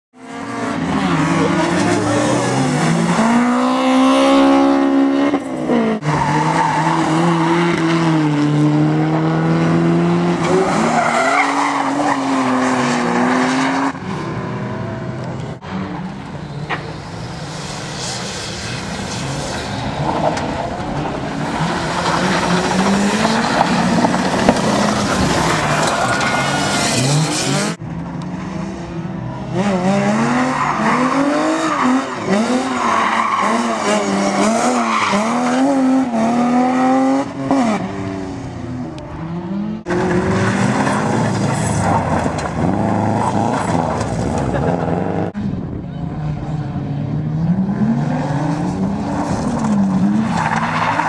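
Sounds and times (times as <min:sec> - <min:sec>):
car engines revving: 0:00.2 - 0:51.0.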